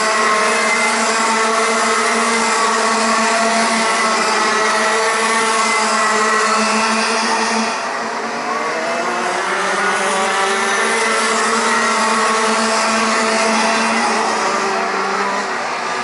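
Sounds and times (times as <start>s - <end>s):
kart engines racing: 0.0s - 16.0s.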